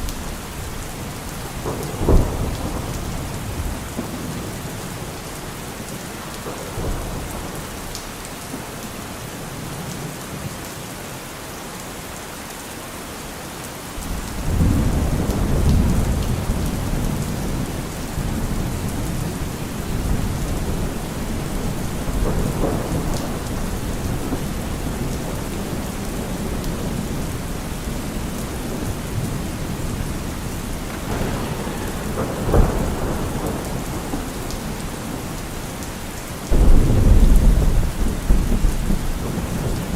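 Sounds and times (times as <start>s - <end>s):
thunder rumbling: 0.0s - 8.7s, 14.0s - 39.9s
steady rain: 0.0s - 39.9s.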